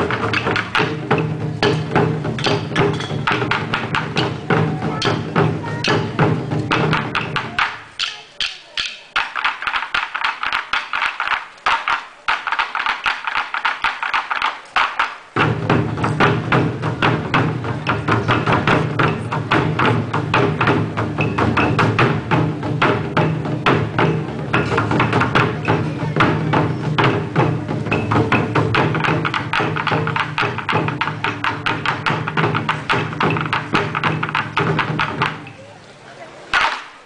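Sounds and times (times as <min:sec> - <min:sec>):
sharp clicking stick strikes: 0:00.0 - 0:22.2, 0:27.8 - 0:35.6, 0:36.5 - 0:37.0
drum ensemble drumming: 0:00.0 - 0:35.7, 0:36.5 - 0:37.0.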